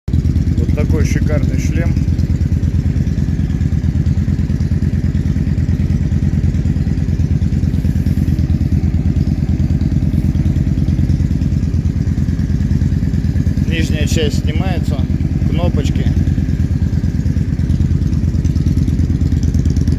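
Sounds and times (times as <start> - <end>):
motorcycle engine idling: 0.1 - 19.9.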